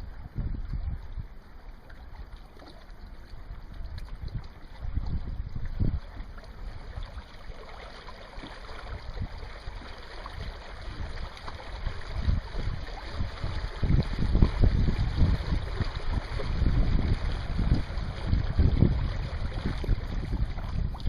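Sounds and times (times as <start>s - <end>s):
wind buffeting microphone: 0.0s - 1.6s, 3.3s - 7.5s, 8.6s - 21.0s.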